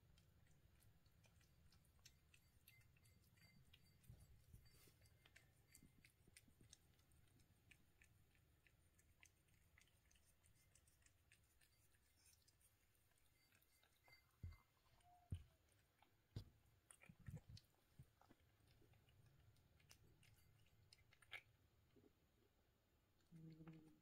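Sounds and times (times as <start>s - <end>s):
kittens chewing food: 0.0s - 24.0s.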